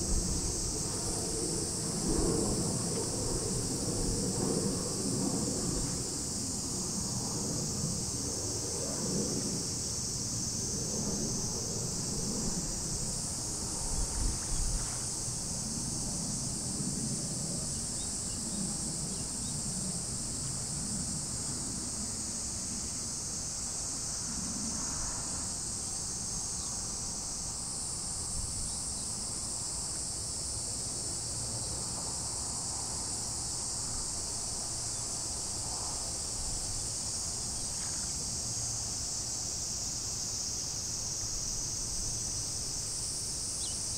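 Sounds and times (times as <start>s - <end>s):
insects chirping: 0.0s - 43.9s.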